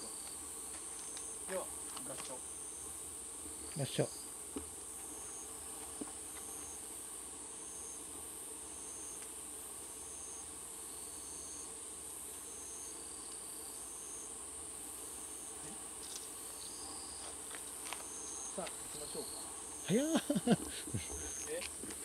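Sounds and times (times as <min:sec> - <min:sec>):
insect high trill: 0:00.0 - 0:22.0.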